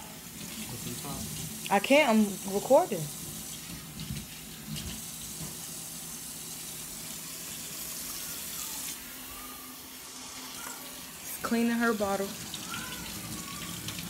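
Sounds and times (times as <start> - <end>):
tap water running into sink: 0.3 - 9.0, 10.4 - 14.0.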